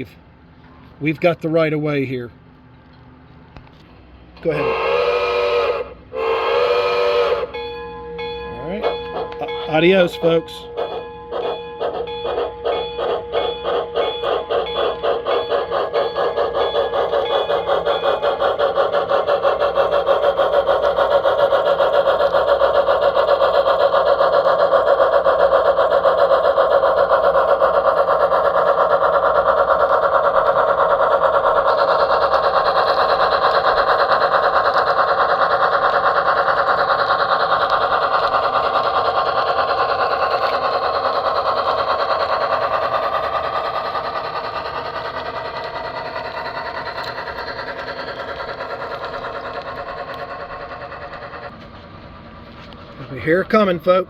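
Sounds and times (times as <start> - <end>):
model train clattering on track: 7.2 - 54.0.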